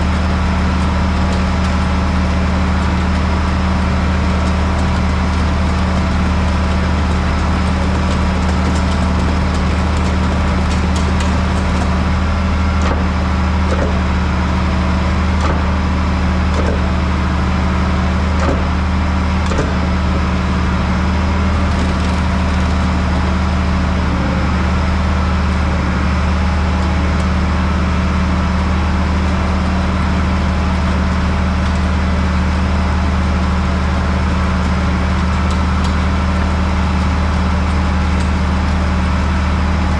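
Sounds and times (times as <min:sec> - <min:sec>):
heavy vehicle engine droning: 0:00.0 - 0:39.9.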